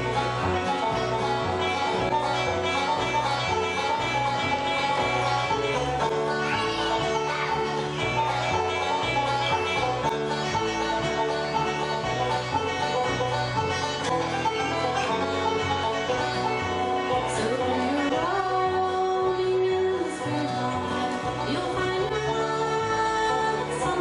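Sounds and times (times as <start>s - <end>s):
double bass: 0.0s - 24.0s
fast banjo picking: 0.0s - 24.0s
guitar: 0.0s - 24.0s.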